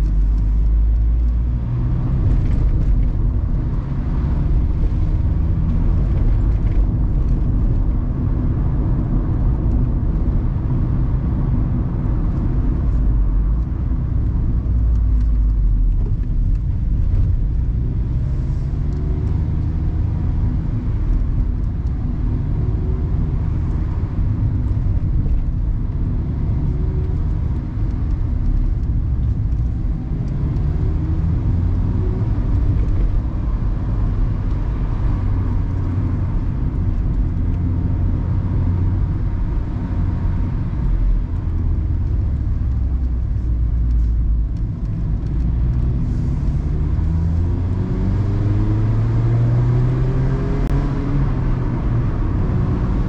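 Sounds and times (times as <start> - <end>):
car engine running: 0.0 - 53.0
road and wind noise: 0.0 - 53.0.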